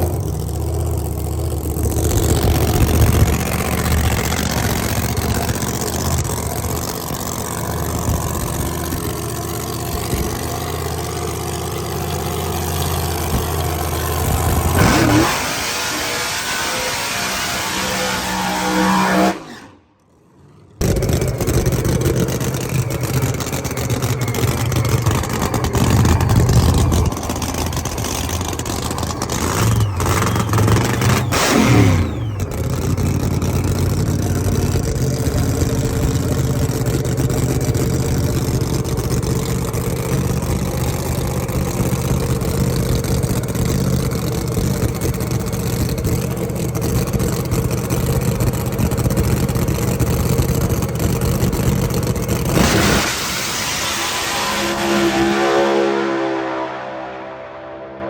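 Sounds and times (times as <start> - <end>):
engine running loud: 0.0 - 58.0.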